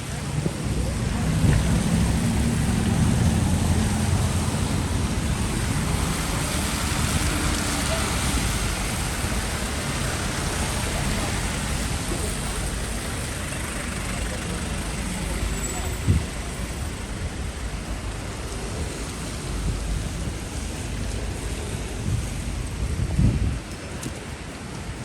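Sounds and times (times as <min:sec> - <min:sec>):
passing traffic: 0:00.0 - 0:25.0
rain hiss on street: 0:00.0 - 0:25.0
vehicle engine rumble: 0:00.0 - 0:25.0.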